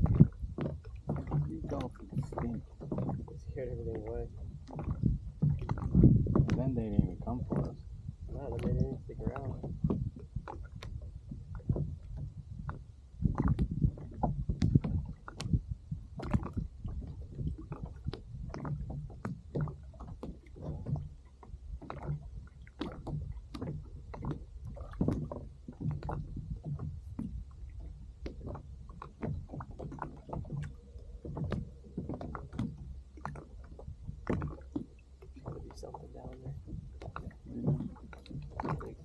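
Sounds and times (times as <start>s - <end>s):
low rumble: 0.0s - 39.0s
waves lapping against kayak hull: 0.0s - 39.0s.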